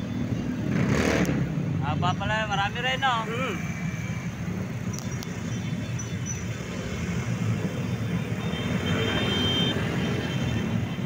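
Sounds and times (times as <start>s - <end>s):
motorcycle engines riding past: 0.0s - 11.0s.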